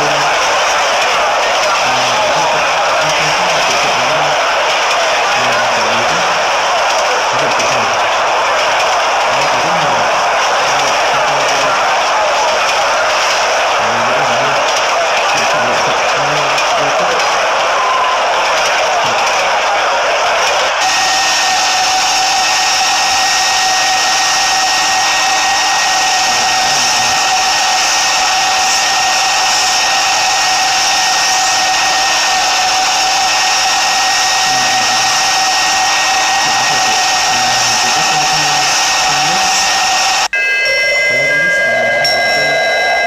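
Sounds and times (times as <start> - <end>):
machine-like whirring with whine: 0.0 - 40.4
several steady tones: 0.0 - 43.0.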